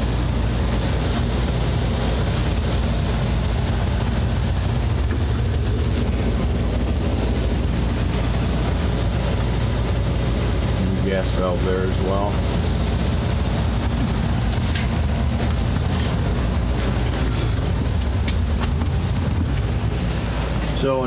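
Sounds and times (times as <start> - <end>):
even rushing noise: 0.0 - 21.0
low mechanical hum: 0.0 - 21.0.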